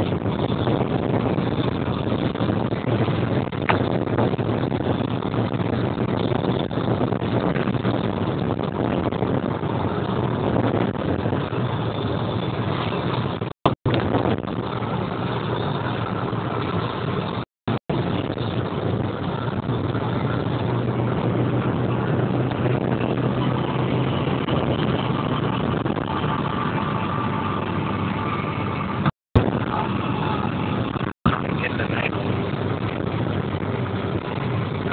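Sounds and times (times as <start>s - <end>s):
car engine hum: 0.0s - 34.9s
tyre and road noise: 0.0s - 34.9s.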